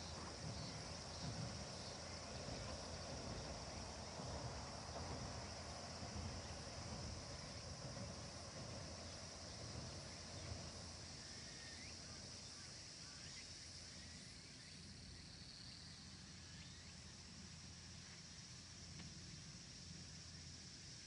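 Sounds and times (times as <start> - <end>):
high insect drone: 0.0 - 21.0.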